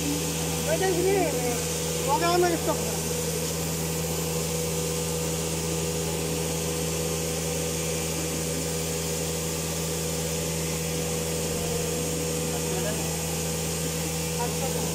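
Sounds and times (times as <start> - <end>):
woodworking machine humming: 0.0 - 14.9.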